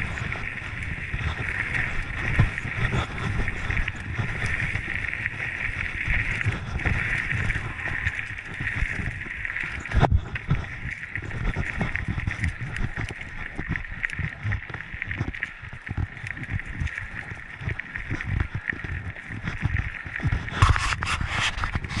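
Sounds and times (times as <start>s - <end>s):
bike tyres rumbling on dirt: 0.0s - 22.0s
wind buffeting microphone: 0.0s - 22.0s.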